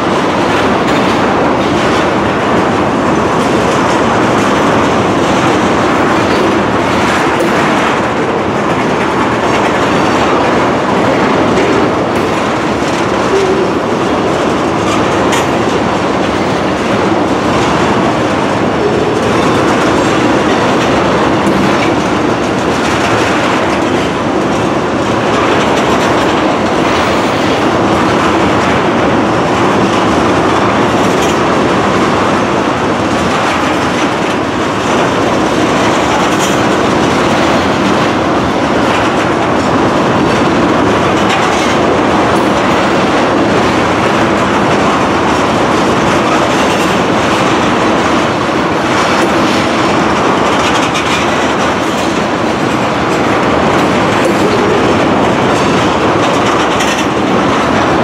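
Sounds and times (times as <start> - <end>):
steel wheels rumbling on rail: 0.0 - 58.0
wheels clicking over rail joints: 0.0 - 58.0.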